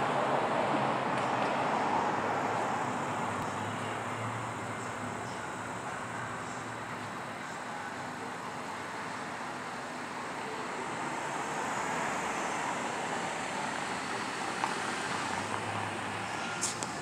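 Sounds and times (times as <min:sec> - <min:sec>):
car engine and tyres: 0:00.0 - 0:17.0.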